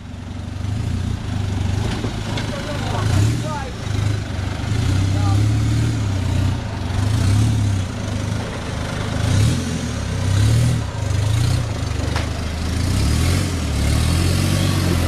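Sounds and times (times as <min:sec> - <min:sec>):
engine revving under load: 0:00.6 - 0:15.0.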